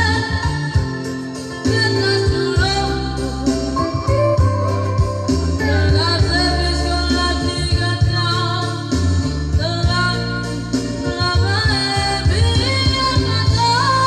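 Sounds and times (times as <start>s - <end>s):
keyboard accompaniment: 0.0s - 14.0s
person singing with vibrato: 0.0s - 14.0s
steady bass: 0.0s - 14.0s.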